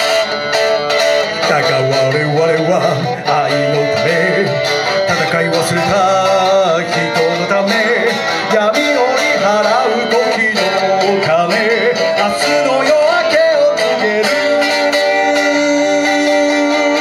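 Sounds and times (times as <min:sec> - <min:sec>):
electric guitar chords: 0:00.0 - 0:17.0
man singing into a microphone: 0:01.2 - 0:17.0.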